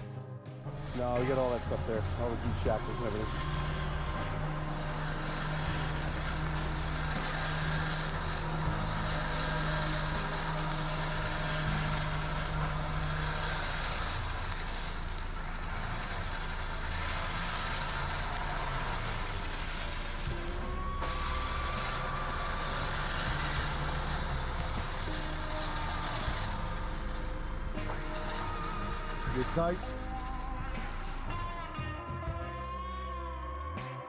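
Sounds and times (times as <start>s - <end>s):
engine running: 0.6s - 33.9s
low hum: 0.7s - 33.8s.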